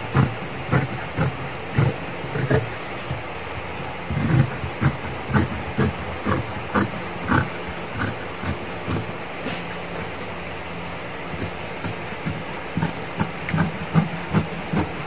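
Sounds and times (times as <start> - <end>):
steady low hum: 0.0 - 15.0
scissors cutting leather: 0.1 - 3.2, 3.8 - 15.0.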